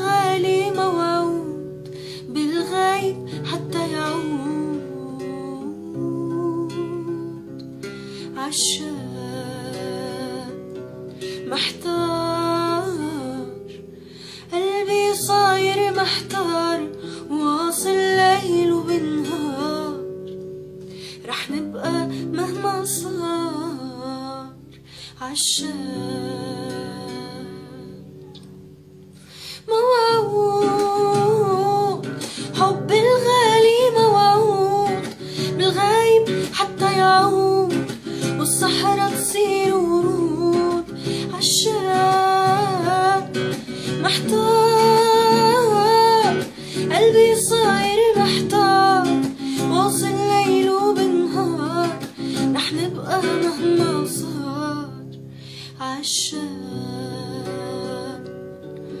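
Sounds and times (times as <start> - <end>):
woman singing with vibrato: 0.0 - 7.4, 8.3 - 10.7, 11.4 - 13.8, 14.4 - 20.1, 21.2 - 28.2, 29.4 - 58.3
acoustic guitar: 0.0 - 59.0.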